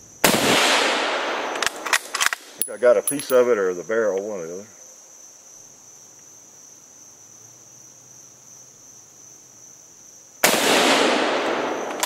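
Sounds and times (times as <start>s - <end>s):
high-pitched insect chorus trilling: 0.0s - 12.0s.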